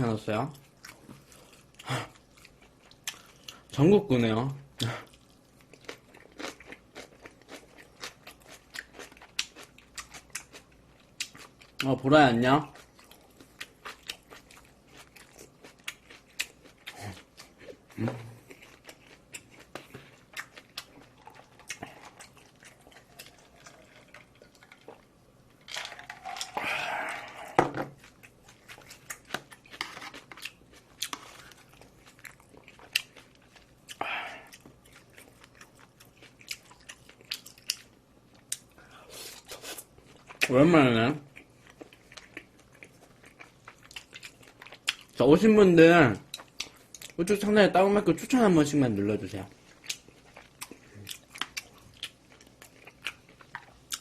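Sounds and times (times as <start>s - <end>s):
person chewing food: 0.6s - 3.7s, 4.7s - 11.9s, 12.6s - 40.5s, 41.2s - 45.2s, 46.2s - 47.2s, 49.5s - 54.0s.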